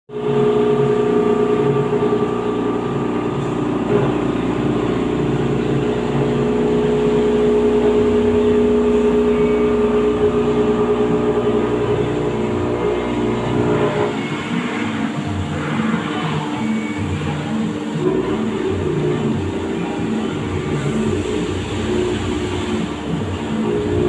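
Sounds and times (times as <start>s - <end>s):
machine whining in stepping tones: 0.3s - 24.0s.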